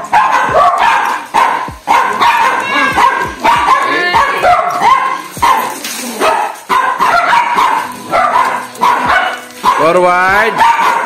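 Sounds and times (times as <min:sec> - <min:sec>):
small dog yipping: 0:00.1 - 0:09.9, 0:10.5 - 0:11.0.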